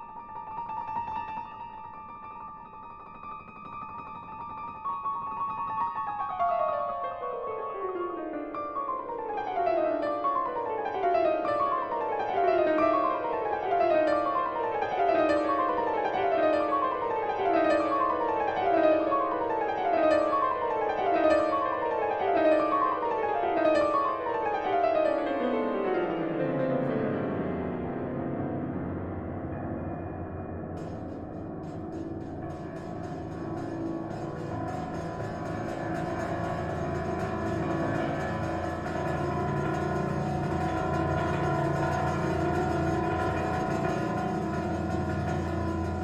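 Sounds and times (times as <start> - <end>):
piano descending scale runs: 0.0 - 46.0.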